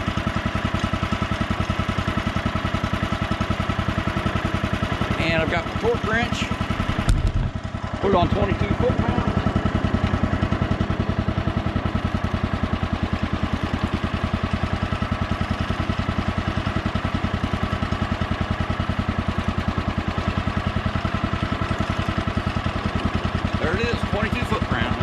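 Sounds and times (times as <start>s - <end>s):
small gas engine idling: 0.0s - 25.0s.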